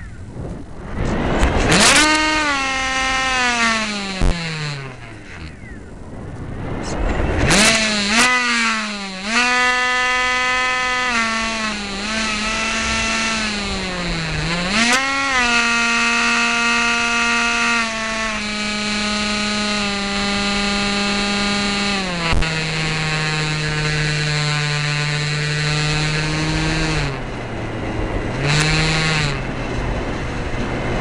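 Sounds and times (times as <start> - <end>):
electric motor and propeller whining: 0.0 - 31.0
rushing wind: 0.0 - 31.0.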